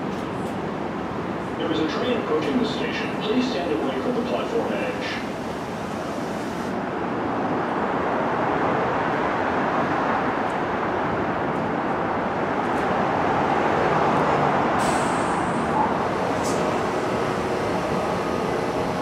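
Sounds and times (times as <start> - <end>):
subway train pulling in: 0.0 - 19.0.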